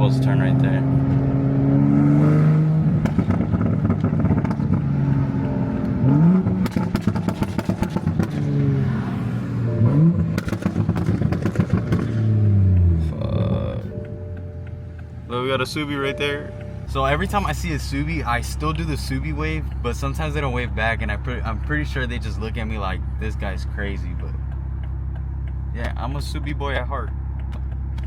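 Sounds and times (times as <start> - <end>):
car engine revving: 0.0 - 28.0
exhaust popping and crackling: 0.0 - 28.0.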